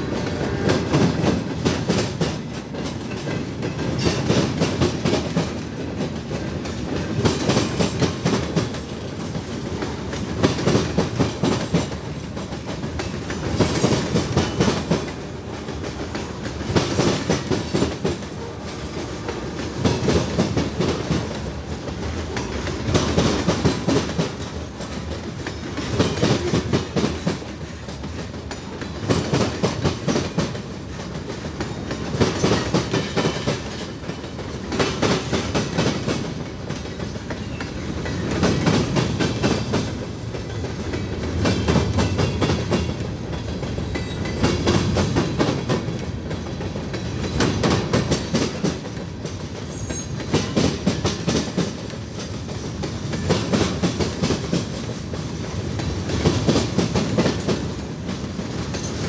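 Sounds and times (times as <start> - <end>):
steady train rumble: 0.0 - 59.0
train wheels clattering over rail joints: 0.0 - 59.0.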